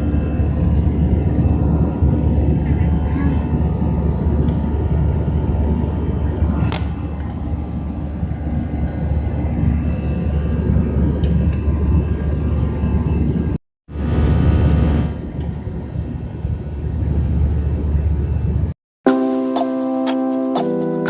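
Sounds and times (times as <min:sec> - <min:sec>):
airliner engines rumbling: 0:00.0 - 0:18.8.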